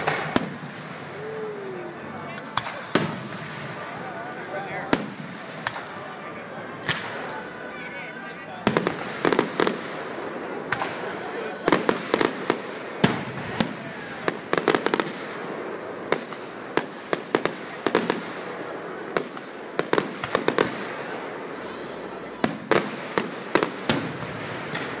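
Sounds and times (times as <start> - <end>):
fireworks bursting: 0.0 - 7.7, 8.6 - 25.0.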